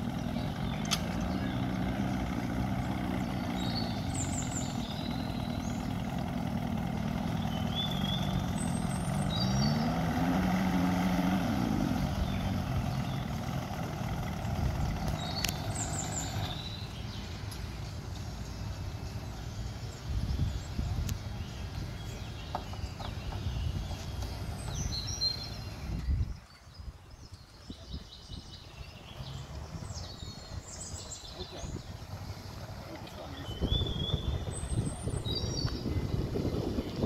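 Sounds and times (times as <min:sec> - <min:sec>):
outboard motor idling: 0:00.0 - 0:26.2, 0:28.9 - 0:37.0.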